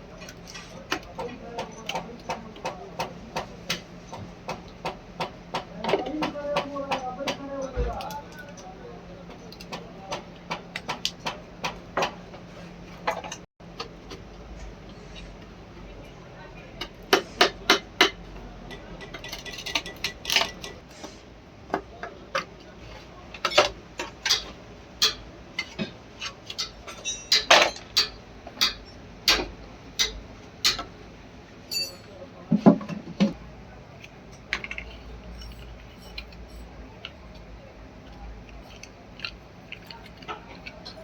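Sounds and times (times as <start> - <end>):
tools tapping and clinking: 0.1 - 12.4, 13.0 - 14.3, 16.8 - 20.8, 23.3 - 31.0, 31.7 - 33.4, 34.0 - 41.0.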